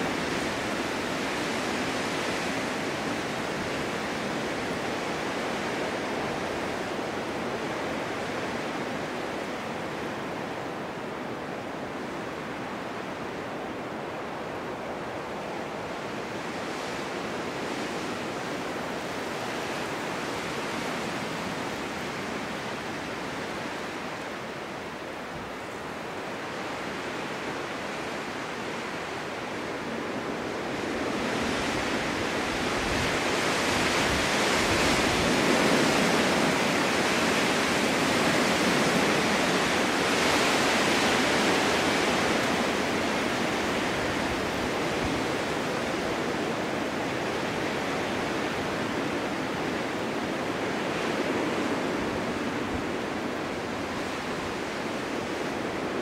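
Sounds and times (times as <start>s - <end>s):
snowstorm wind blowing: 0.0s - 56.0s.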